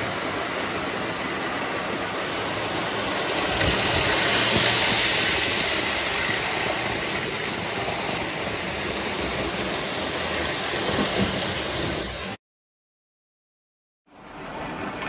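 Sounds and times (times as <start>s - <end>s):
model train rolling on track: 0.0s - 12.4s.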